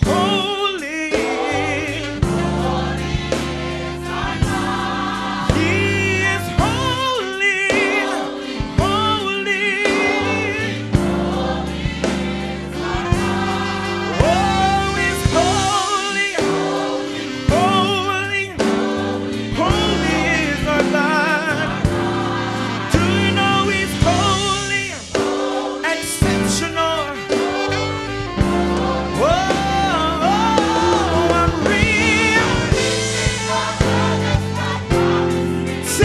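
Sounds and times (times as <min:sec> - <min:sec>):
gospel choir singing: 0:00.0 - 0:36.0
instrumental backing chords: 0:00.0 - 0:36.0.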